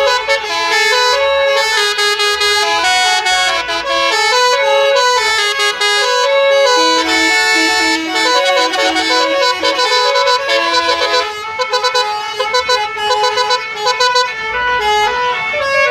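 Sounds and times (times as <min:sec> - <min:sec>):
multi-tone bus horn playing tune: 0:00.0 - 0:15.9.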